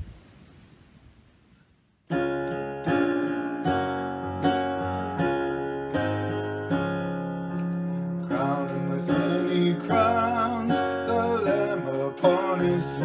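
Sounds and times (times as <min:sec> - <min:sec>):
piano playing hymn chords: 0:02.1 - 0:13.0.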